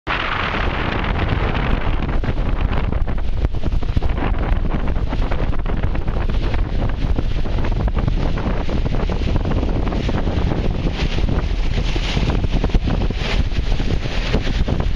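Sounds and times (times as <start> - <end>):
wind buffeting microphone: 0.1 - 14.9.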